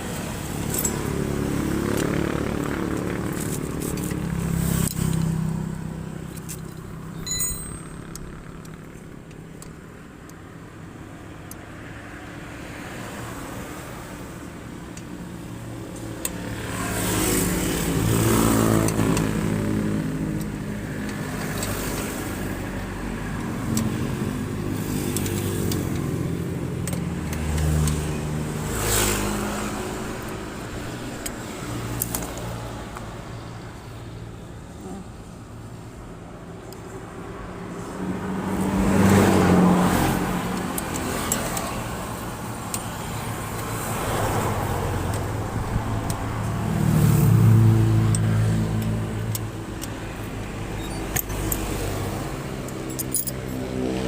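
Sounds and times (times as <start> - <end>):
road traffic engine hum: 0.0 - 54.0
vehicles passing: 0.0 - 54.0.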